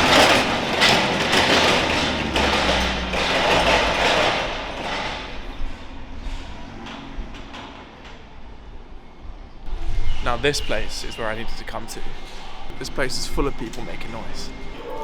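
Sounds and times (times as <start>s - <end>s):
busy city street noise: 0.0s - 15.0s.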